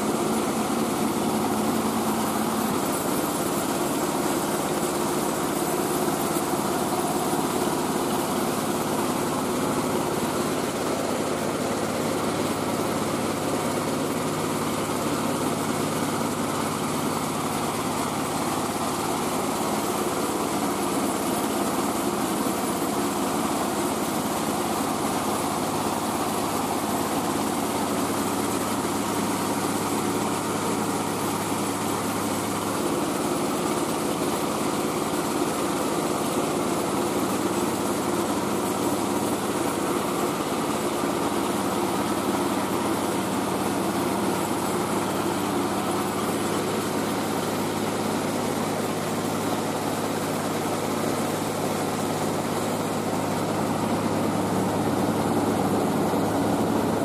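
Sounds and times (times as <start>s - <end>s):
rice-milling machine engine running: 0.0s - 57.0s.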